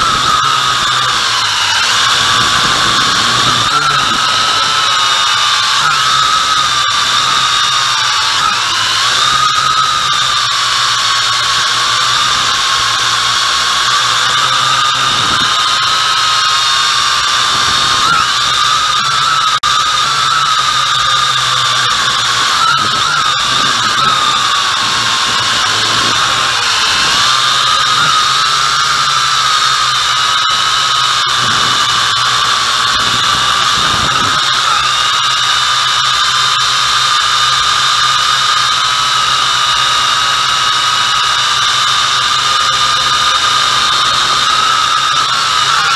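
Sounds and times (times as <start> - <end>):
drone propellers whining: 0.0 - 45.9.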